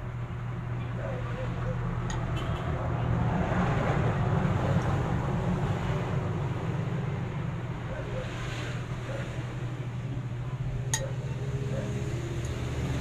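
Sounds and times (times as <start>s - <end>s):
vehicle engine passing by: 1.1s - 9.9s, 10.8s - 13.0s.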